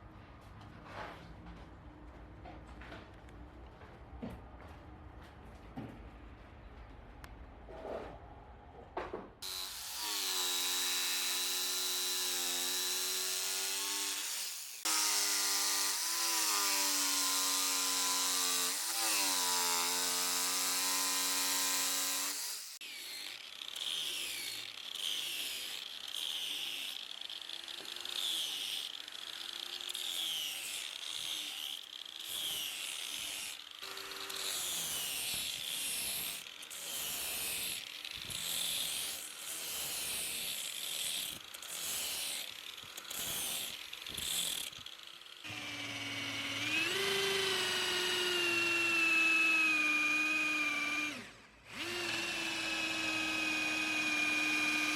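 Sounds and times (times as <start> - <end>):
power tool whining: 9.4 - 54.9.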